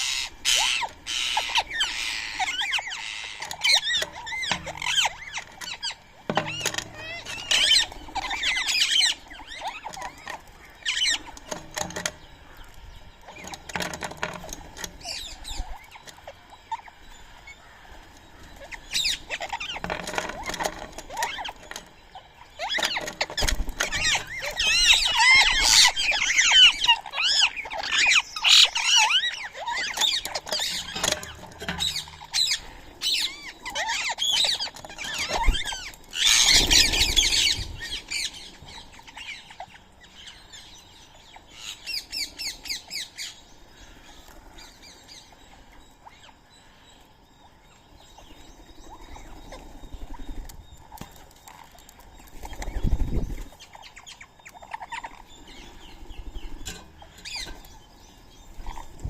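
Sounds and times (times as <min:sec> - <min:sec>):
birds calling and chattering: 0:00.0 - 0:59.0.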